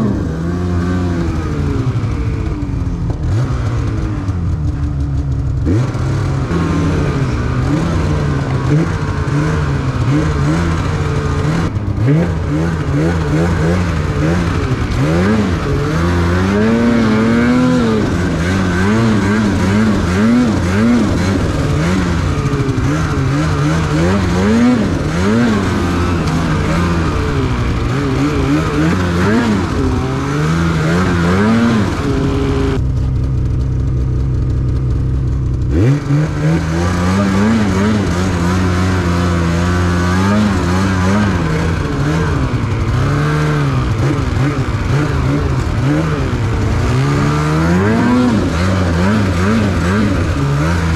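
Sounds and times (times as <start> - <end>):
snowmobile engine revving: 0.0 - 50.9.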